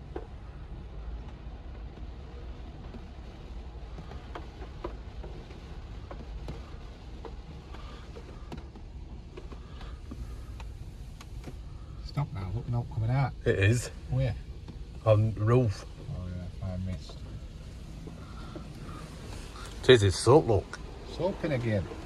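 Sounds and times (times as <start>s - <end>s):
muffled car wash machinery rumble: 0.0s - 22.0s
water drops ticking on car: 0.0s - 22.0s.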